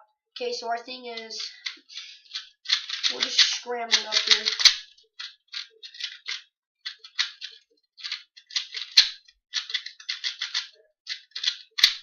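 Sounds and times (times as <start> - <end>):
plastic puzzle cube clicking: 1.2 - 12.0.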